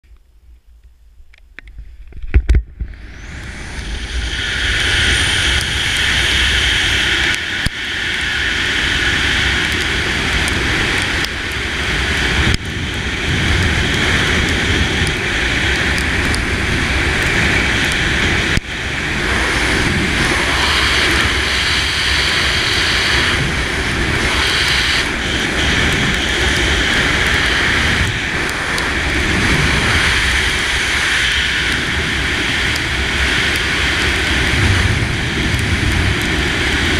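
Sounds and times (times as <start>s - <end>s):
wind rushing over microphone: 0.3s - 36.9s.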